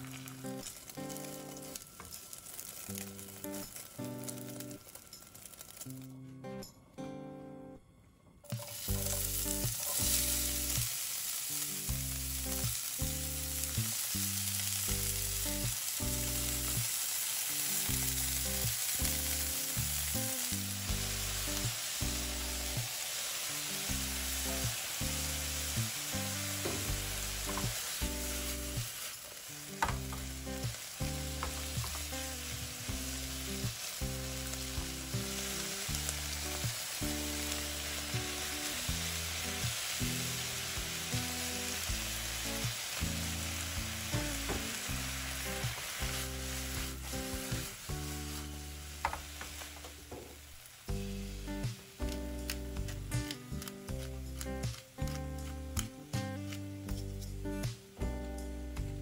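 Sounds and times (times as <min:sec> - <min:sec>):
vegetables sizzling in frying pan: 0:00.0 - 0:06.0, 0:08.5 - 0:59.0.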